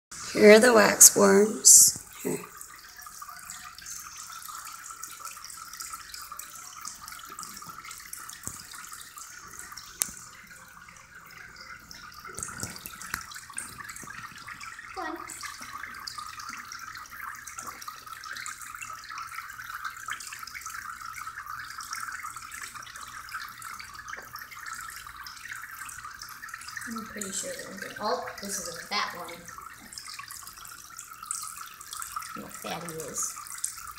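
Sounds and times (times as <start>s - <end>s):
running water trickling: 0.1s - 33.9s.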